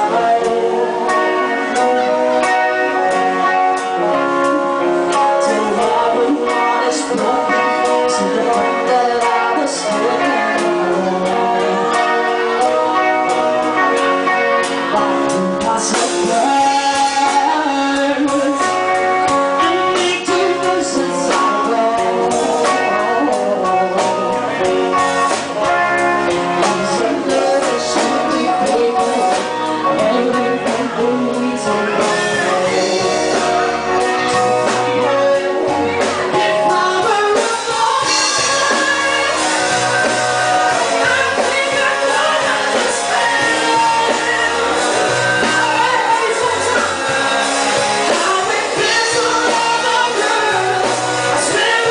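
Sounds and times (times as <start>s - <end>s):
band playing rock song: 0.0s - 51.9s
person singing: 0.0s - 51.9s.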